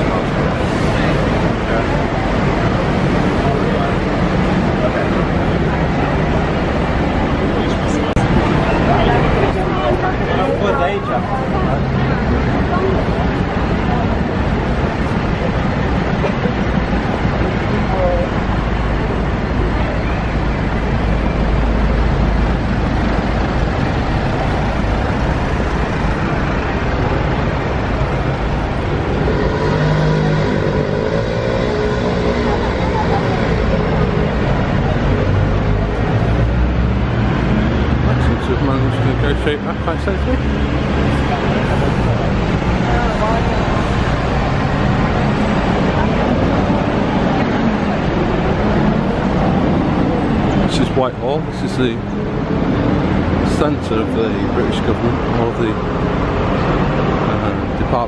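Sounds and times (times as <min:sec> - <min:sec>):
heavy road traffic rumble: 0:00.0 - 0:58.0
indistinct voices: 0:00.0 - 0:58.0
vehicles passing with engine hum: 0:00.0 - 0:58.0.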